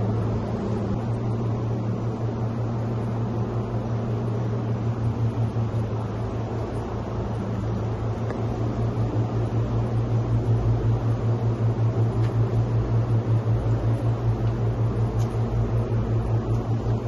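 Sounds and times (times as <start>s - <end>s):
constant hiss: 0.0s - 17.0s
machine hum with fast pulsing: 0.0s - 17.0s.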